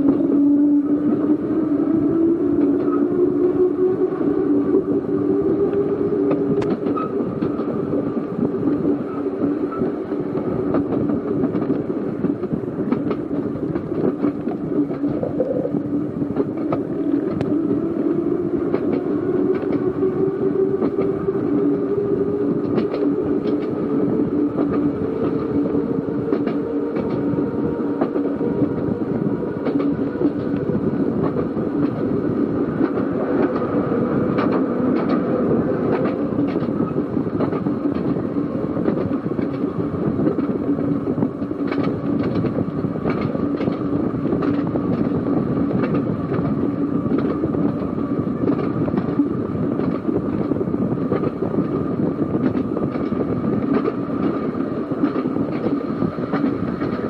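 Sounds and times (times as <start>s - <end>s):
rail joint clicks: 0.0s - 57.0s
tram wheels rumbling: 0.0s - 57.0s.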